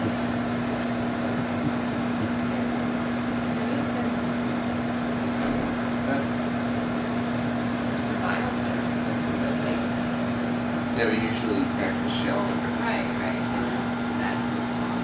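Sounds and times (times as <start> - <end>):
microwave fan whirring: 0.0 - 15.0
microwave oven humming: 0.0 - 15.0.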